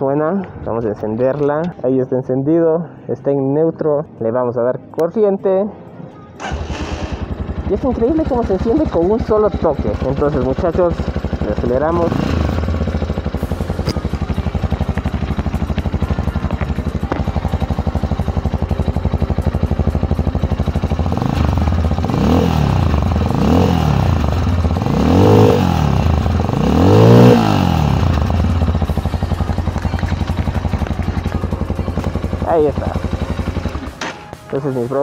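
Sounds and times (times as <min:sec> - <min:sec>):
motorcycle engine idling and revving: 0:06.4 - 0:35.0.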